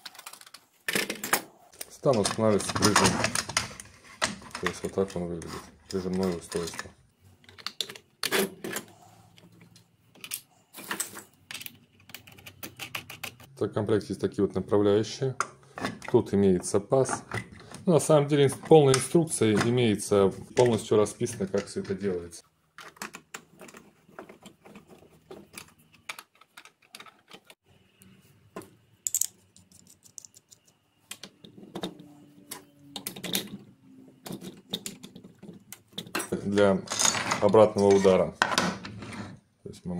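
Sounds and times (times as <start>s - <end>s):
plastic parts clicking and knocking: 0.0s - 13.5s, 15.4s - 27.6s, 28.5s - 39.0s.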